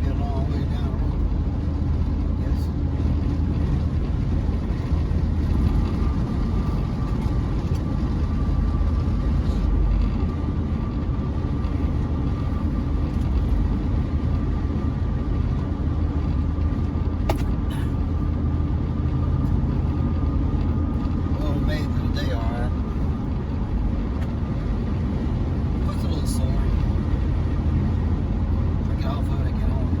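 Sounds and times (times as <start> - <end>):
in-cab road and engine noise: 0.0 - 30.0.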